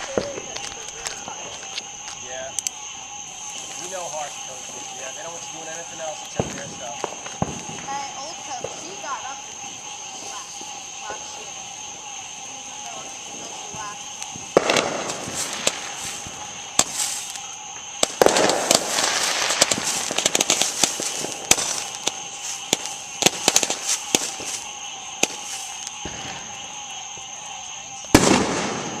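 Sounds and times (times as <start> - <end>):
firework fountain hissing: 0.0 - 29.0
sharp crackling pops: 0.0 - 29.0.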